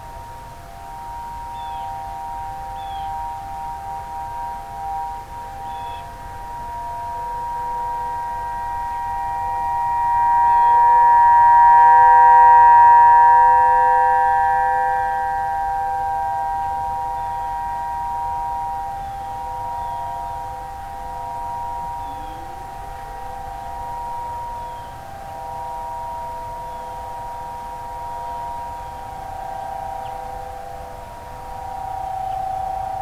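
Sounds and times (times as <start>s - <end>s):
warning sirens steady tone: 0.0s - 33.0s.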